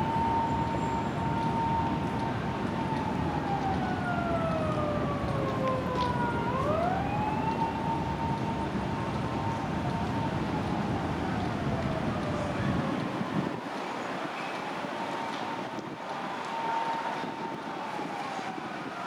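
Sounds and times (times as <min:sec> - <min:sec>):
police siren wailing: 0:00.0 - 0:13.7, 0:14.7 - 0:19.0.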